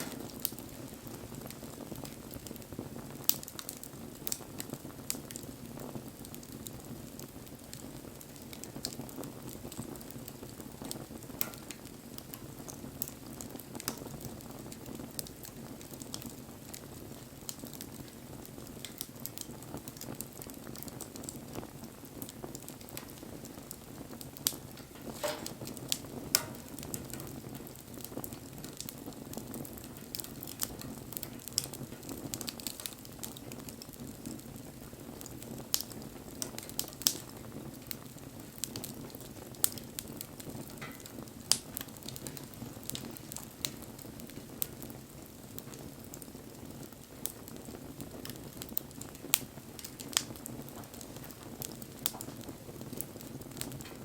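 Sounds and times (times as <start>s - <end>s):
bonfire flame rushing: 0.0s - 54.0s
fire crackling and popping: 0.0s - 54.0s.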